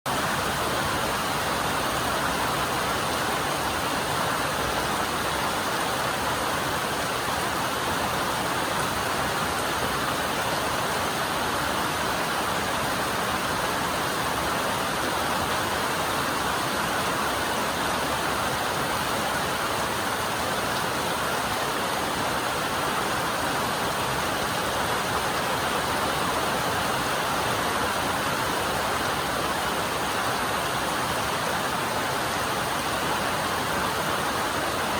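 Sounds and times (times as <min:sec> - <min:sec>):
rain on a metal roof: 0:00.1 - 0:34.9.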